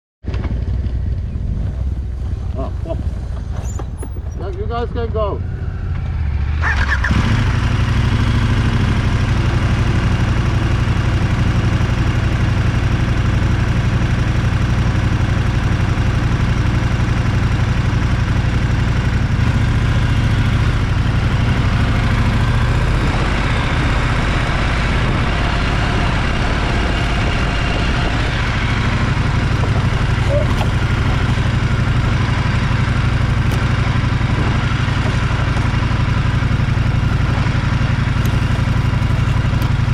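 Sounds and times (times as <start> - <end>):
motorcycle engine running: 0.3 - 39.9.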